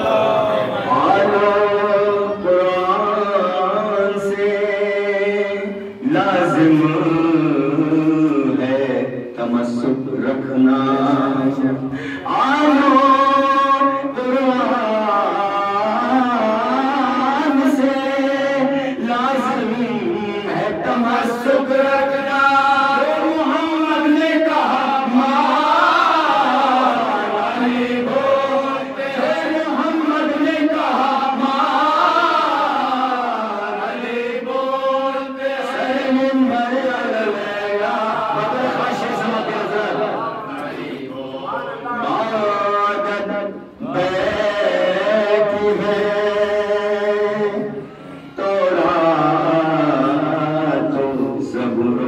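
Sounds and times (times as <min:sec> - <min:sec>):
man chanting into microphone: 0:00.0 - 0:52.0.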